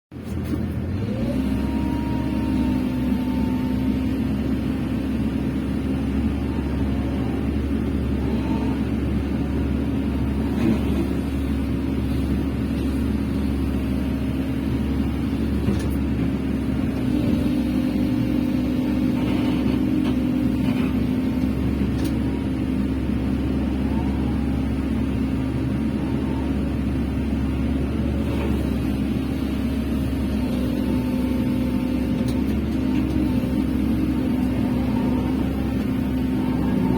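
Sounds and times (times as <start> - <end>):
excavator diesel engine running: 0.1 - 36.9
hydraulic whine: 0.4 - 36.9.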